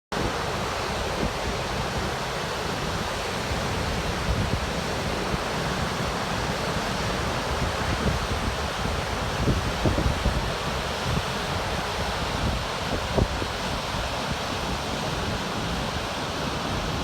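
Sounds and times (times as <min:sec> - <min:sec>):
waterfall roaring: 0:00.2 - 0:17.0.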